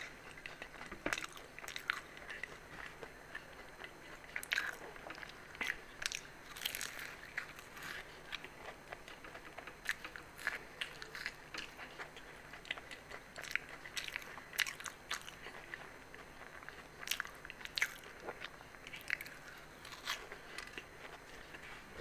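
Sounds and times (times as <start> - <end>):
crunching crisp pastry: 0.0 - 22.0.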